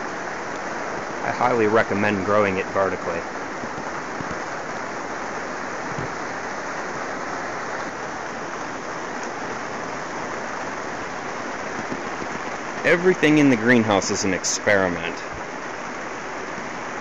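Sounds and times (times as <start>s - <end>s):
rain on plastic sheeting: 0.0s - 17.0s.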